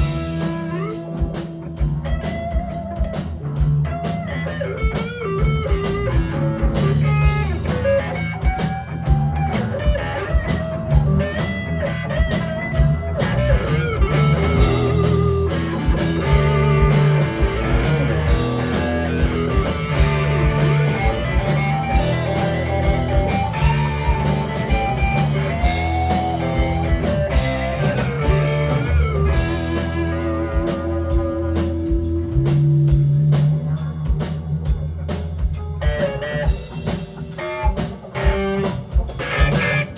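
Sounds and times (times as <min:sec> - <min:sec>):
bass guitar: 0:00.0 - 0:39.9
drum kit with cymbal beat: 0:00.0 - 0:39.9
electric guitar with bent notes: 0:00.0 - 0:39.9.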